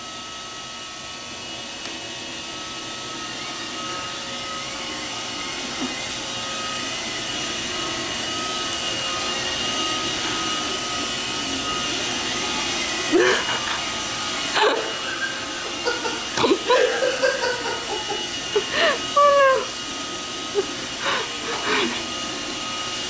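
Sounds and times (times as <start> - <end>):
robot vacuum motor whirring: 1.7 - 23.0.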